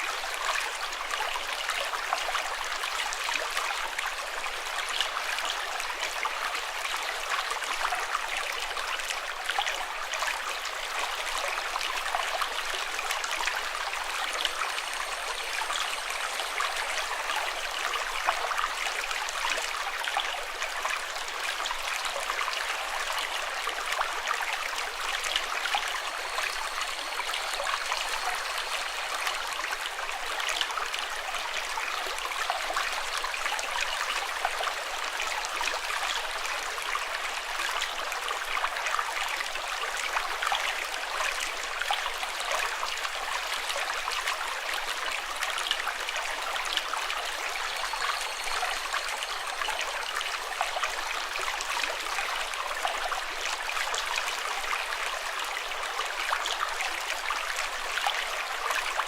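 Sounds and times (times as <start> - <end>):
stream water rushing and trickling: 0.0 - 59.0.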